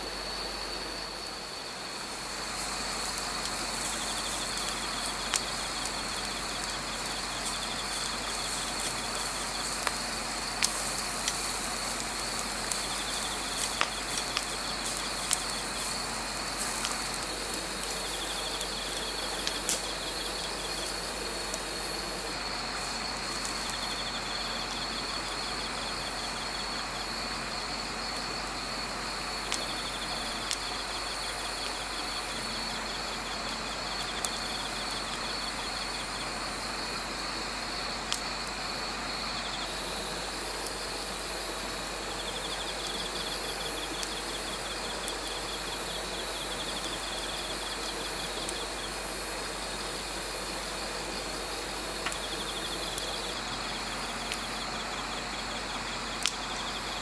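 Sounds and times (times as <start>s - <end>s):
insects chirping: 0.0s - 27.6s, 29.4s - 36.8s, 39.4s - 55.9s
continuous hiss: 0.0s - 56.9s.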